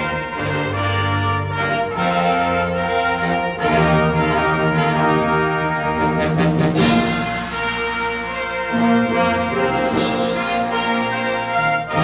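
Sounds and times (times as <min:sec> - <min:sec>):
brass band playing held chords: 0:00.0 - 0:12.0.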